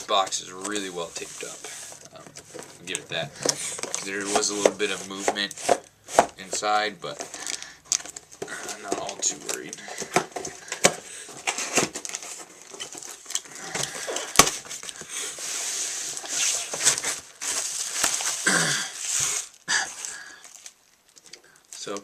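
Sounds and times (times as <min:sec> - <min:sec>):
packing material rustling: 0:00.0 - 0:22.0
packing tape tearing: 0:00.0 - 0:22.0.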